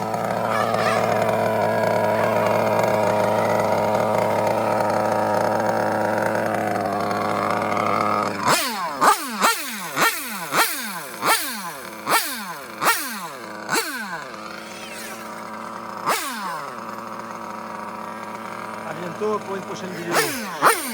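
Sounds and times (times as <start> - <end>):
engine throttle blips: 0.0 - 20.9
nitro rc car engine running: 0.0 - 20.9.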